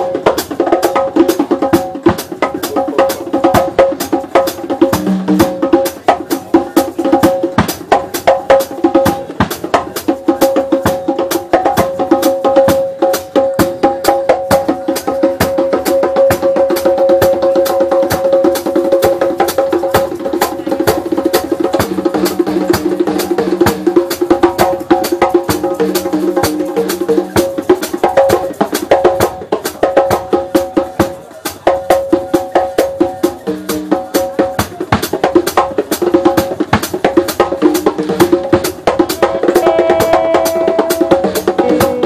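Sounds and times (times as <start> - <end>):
fast drum kit playing: 0.0 - 42.0.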